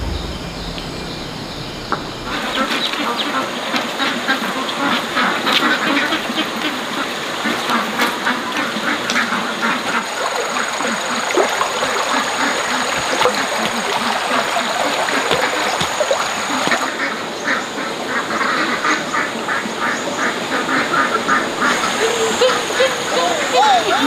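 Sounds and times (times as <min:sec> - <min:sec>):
ducks quacking: 0:01.8 - 0:24.0.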